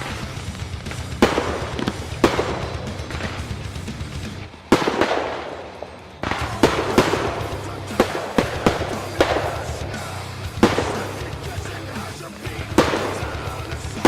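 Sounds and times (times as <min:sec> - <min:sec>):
firework shells bursting with bangs: 0:00.0 - 0:14.0.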